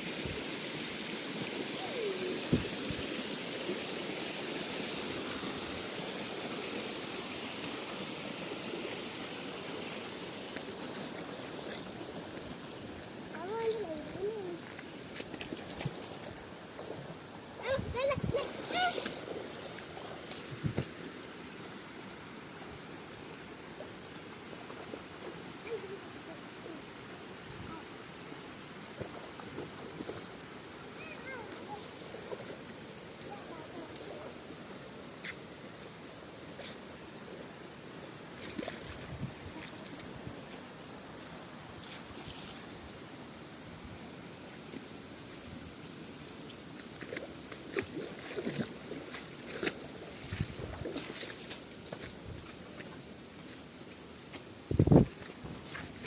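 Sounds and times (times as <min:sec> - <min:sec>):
high hiss: 0:00.0 - 0:56.0.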